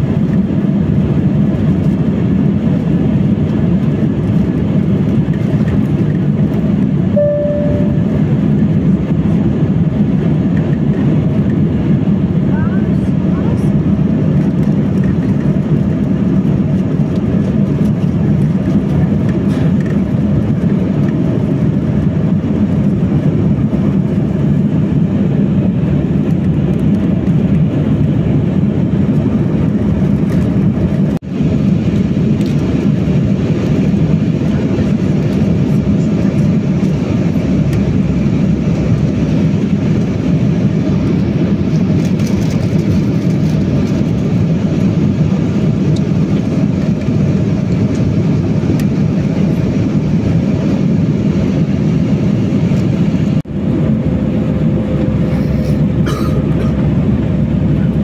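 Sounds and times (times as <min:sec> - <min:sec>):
airliner cabin drone: 0:00.0 - 0:58.0.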